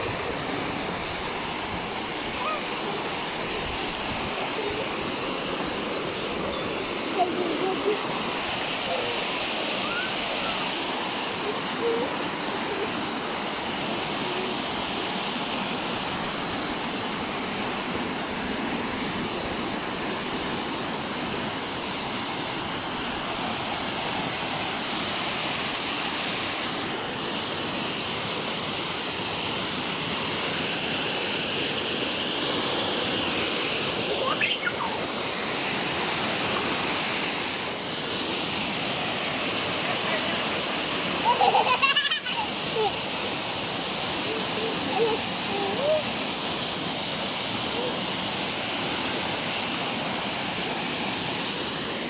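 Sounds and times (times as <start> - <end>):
tumbling water rushing: 0.0 - 52.0.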